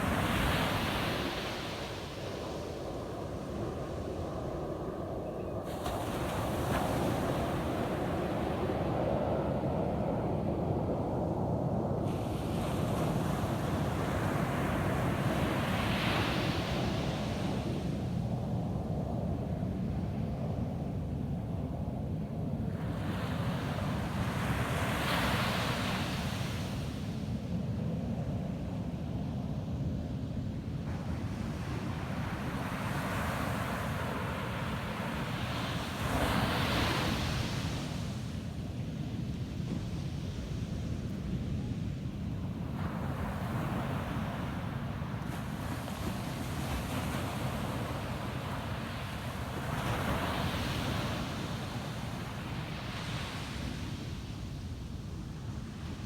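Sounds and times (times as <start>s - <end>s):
ocean surf on a beach: 0.0s - 18.7s, 22.7s - 27.3s, 30.8s - 56.0s.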